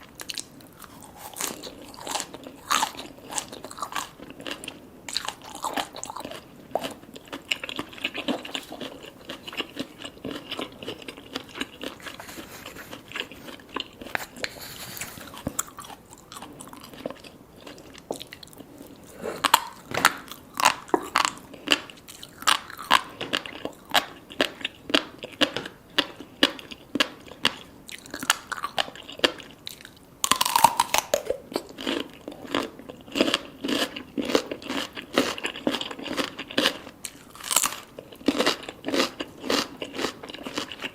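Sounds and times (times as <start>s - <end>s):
wet crunchy chewing: 0.1s - 40.9s.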